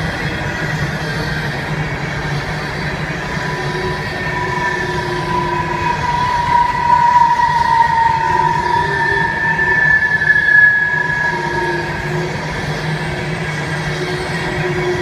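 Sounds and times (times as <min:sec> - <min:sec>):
train wheels rumbling on rail: 0:00.0 - 0:15.0
high wheel squeal: 0:02.3 - 0:15.0.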